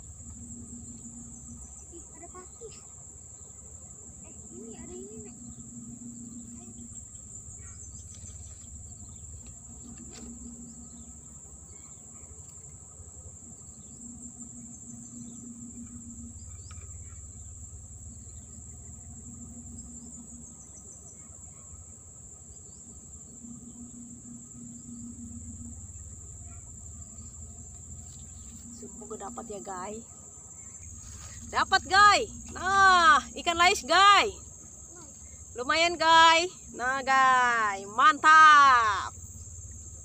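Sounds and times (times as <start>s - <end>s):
high-pitched insect chorus: 0.0s - 40.0s
low pulsing buzz: 0.0s - 40.0s.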